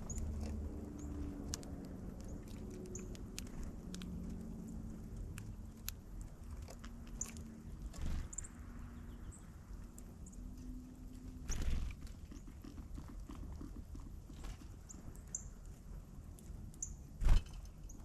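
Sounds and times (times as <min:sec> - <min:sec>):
birds pecking: 0:00.0 - 0:18.0.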